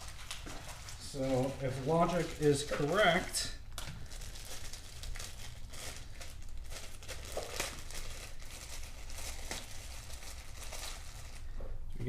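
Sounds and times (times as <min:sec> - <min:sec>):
plastic tearing: 0:00.0 - 0:11.5
plastic packaging crinkling: 0:00.0 - 0:11.9.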